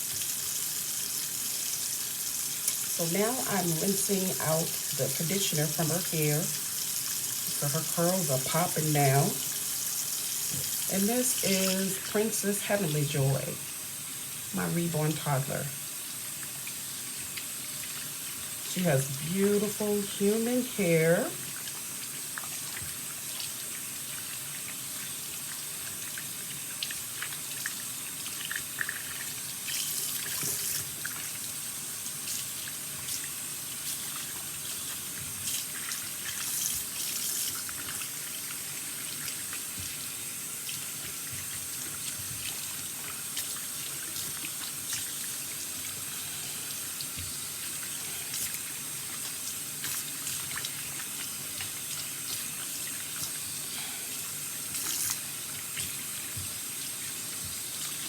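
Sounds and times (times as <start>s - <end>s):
tap water running into a sink: 0.0s - 58.0s.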